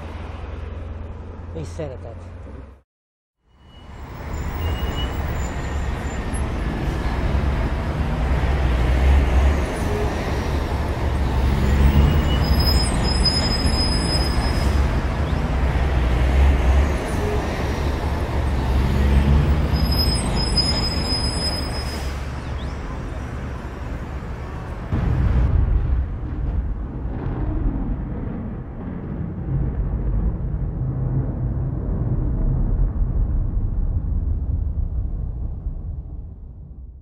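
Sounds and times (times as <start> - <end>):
loud rushing rumbling noise: 5.2 - 37.0.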